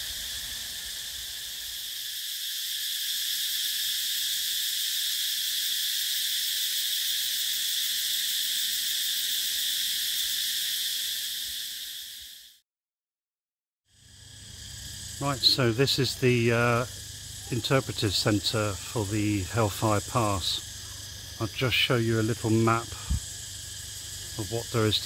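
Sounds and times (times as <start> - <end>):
insects droning: 0.0 - 12.6, 13.9 - 25.0.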